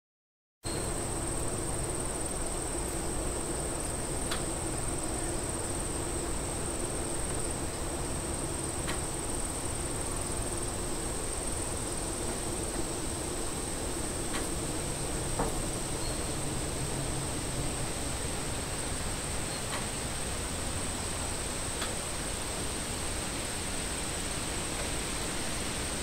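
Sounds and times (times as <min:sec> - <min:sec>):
cicadas buzzing: 0:00.7 - 0:26.0.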